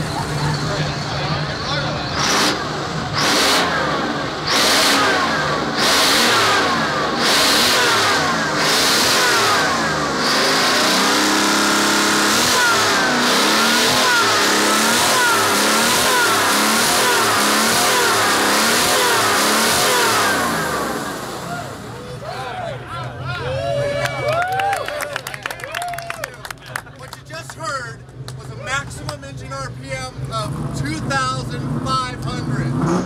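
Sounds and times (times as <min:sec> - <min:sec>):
diesel engine revving: 0:00.0 - 0:22.4, 0:27.3 - 0:33.0.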